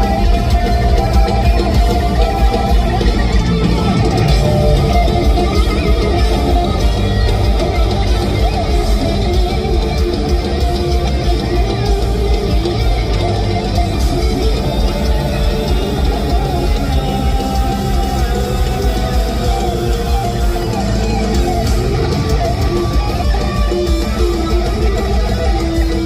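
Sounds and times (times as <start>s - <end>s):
electric guitar lead: 0.0s - 26.0s
heavy metal band playing live: 0.0s - 26.0s.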